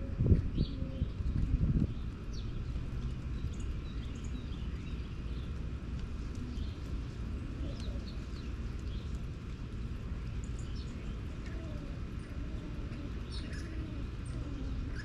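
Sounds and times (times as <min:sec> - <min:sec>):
steady low rumble: 0:00.0 - 0:15.0
small birds chirping: 0:00.2 - 0:15.0.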